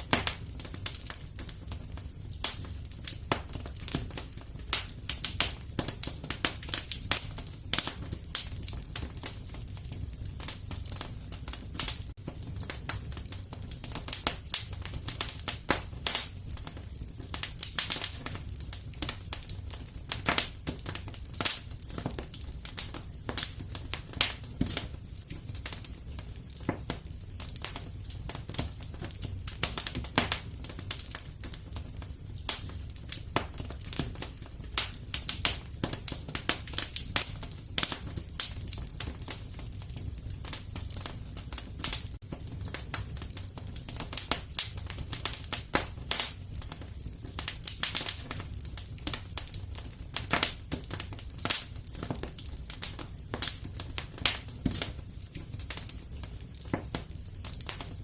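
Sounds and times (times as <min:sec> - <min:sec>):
fire pops and snaps: 0:00.0 - 0:58.0
low rumble of flames: 0:00.0 - 0:58.0.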